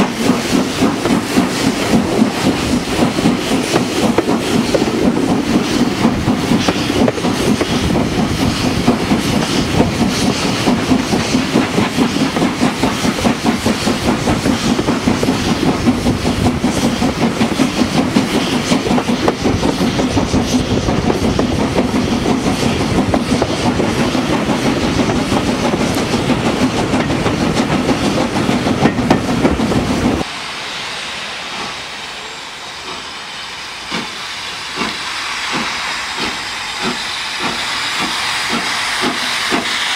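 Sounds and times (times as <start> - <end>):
steam train rumbling past: 0.0 - 39.9.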